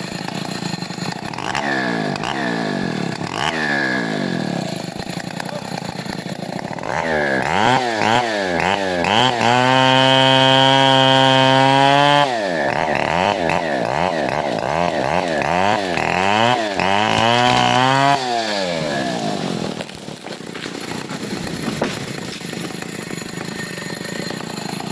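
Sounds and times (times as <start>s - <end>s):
chainsaw revving: 0.0s - 24.9s.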